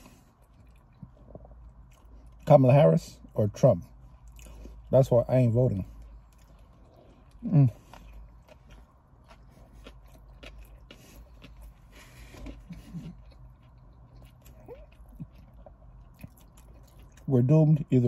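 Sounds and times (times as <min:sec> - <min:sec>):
person chewing food: 0:00.0 - 0:02.5, 0:04.0 - 0:04.9, 0:05.8 - 0:17.3.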